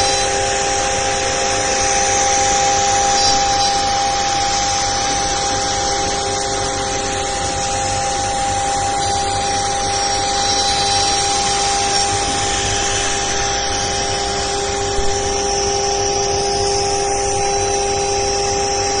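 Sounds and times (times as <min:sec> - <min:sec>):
bit cutting wood hiss: 0:00.0 - 0:18.8
cnc router whining: 0:00.0 - 0:19.0.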